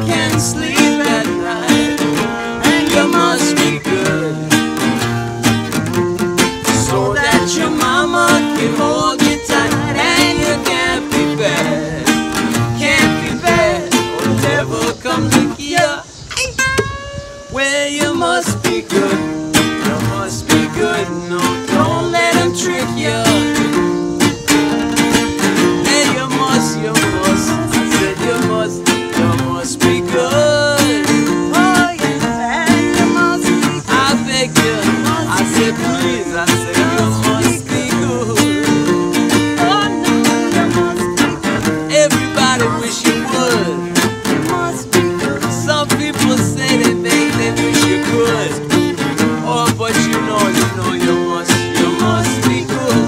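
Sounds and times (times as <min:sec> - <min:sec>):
person singing: 0:00.0 - 0:05.0, 0:06.7 - 0:16.1, 0:17.4 - 0:23.8, 0:25.6 - 0:48.8, 0:49.4 - 0:53.0
acoustic guitars strummed and picked: 0:00.0 - 0:53.0.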